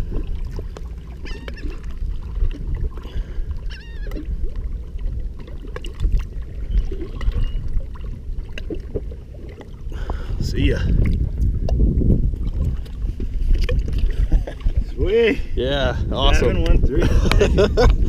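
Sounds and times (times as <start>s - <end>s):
water sloshing and lapping: 0.0s - 18.0s
wind rumble on microphone: 0.0s - 18.0s.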